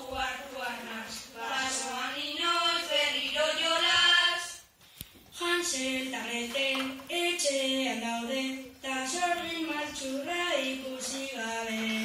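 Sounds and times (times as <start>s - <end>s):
children singing: 0.0s - 4.6s, 5.4s - 12.0s.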